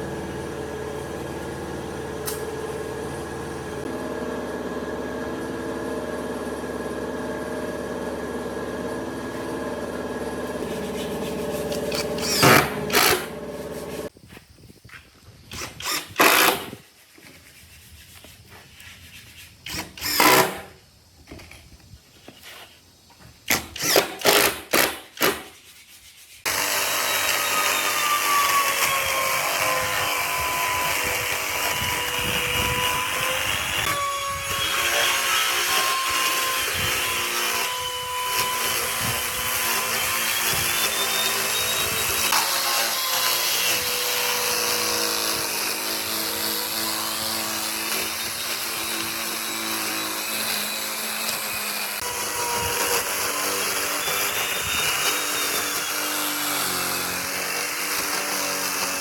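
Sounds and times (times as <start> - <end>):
power tool whining against wood: 0.0 - 14.1, 15.5 - 16.8, 19.7 - 20.7, 26.4 - 59.0.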